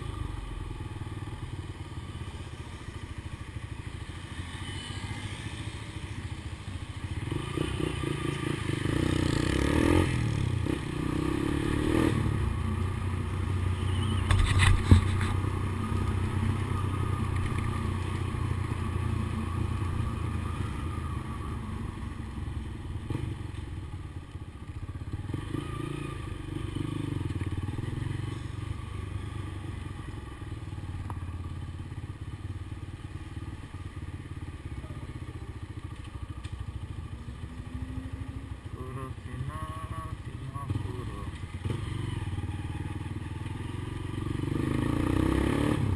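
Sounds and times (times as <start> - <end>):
motorcycle engine revving: 0.0 - 32.6, 33.2 - 45.9.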